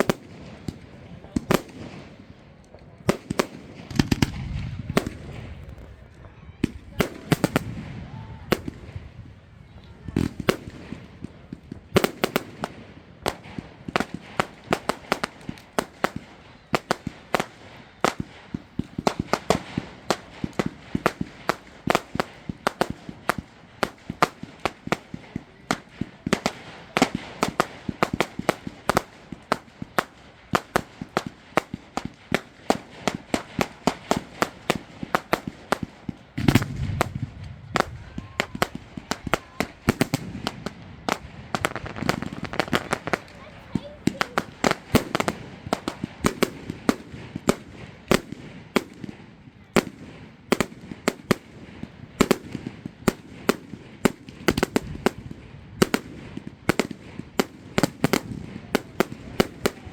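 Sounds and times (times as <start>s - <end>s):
fireworks crackling bangs: 0.0s - 59.9s
deep firework booms: 3.1s - 9.4s, 18.0s - 59.9s.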